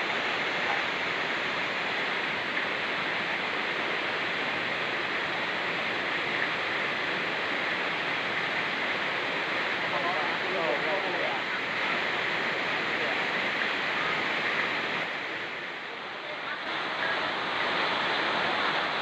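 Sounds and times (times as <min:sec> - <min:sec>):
fast-flowing stream: 0:00.0 - 0:19.0
rain falling in forest: 0:00.0 - 0:19.0.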